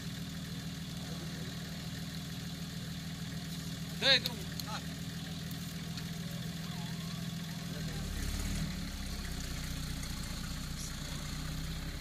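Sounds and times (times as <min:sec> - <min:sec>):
buggy engine at low revs: 0:00.0 - 0:12.0.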